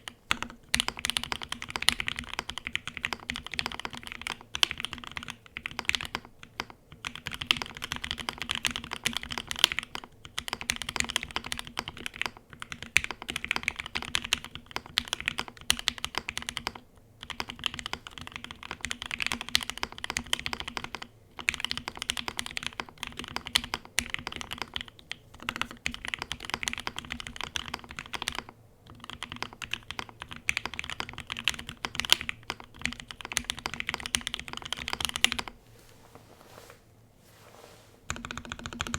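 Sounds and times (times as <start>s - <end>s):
fast typing on mechanical keyboard: 0.3s - 35.5s, 38.1s - 38.9s.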